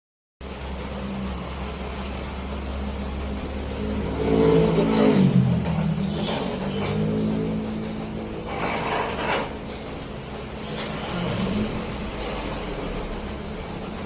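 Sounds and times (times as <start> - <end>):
car engine revving: 1.2 - 14.0.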